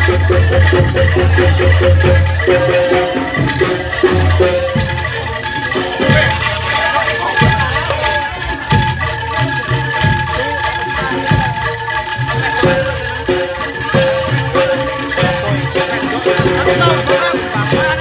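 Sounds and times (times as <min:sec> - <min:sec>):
hand drums beating: 0:00.0 - 0:18.0
held ringing tones: 0:00.0 - 0:18.0.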